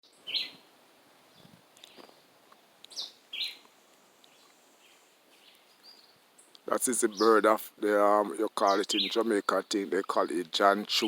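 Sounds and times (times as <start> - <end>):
bird chirping: 0.0 - 0.7, 1.3 - 11.0.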